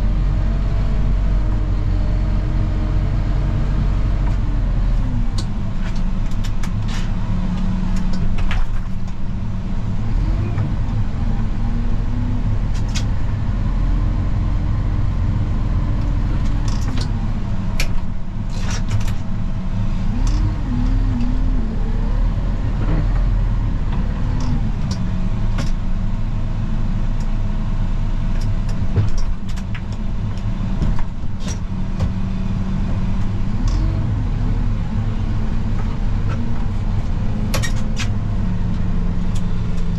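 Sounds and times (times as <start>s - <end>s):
snow plow engine revving: 0.0s - 39.9s.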